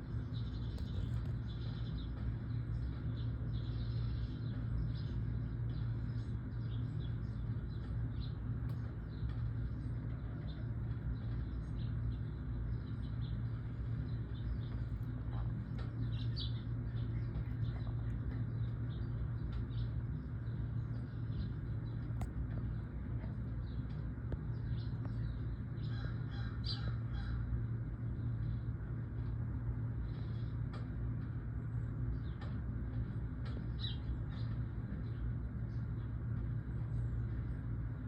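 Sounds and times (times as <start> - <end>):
birds chirping: 0.0 - 38.0
steady low hum: 0.0 - 38.0.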